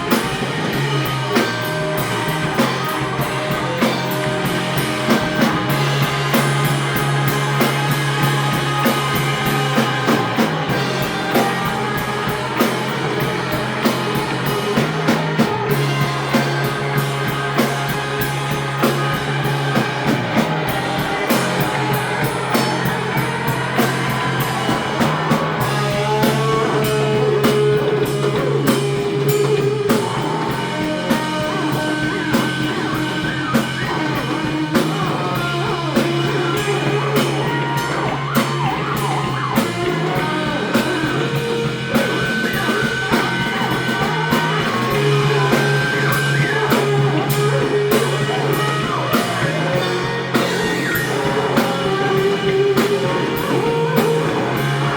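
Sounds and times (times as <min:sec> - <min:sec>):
drum kit cymbal and drum hits: 0:00.0 - 0:54.9
electric guitars: 0:00.0 - 0:54.9
rock band playing: 0:00.0 - 0:54.9.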